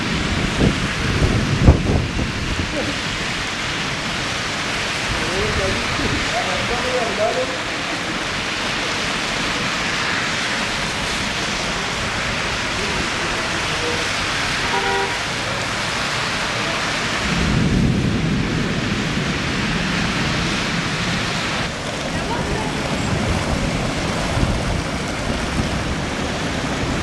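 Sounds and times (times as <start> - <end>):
heavy rain falling: 0.0 - 27.0
thunder rumbling: 0.0 - 27.0.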